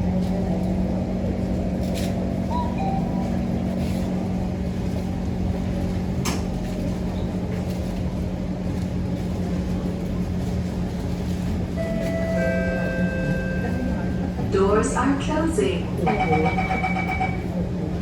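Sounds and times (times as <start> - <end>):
train equipment hum: 0.0 - 18.0.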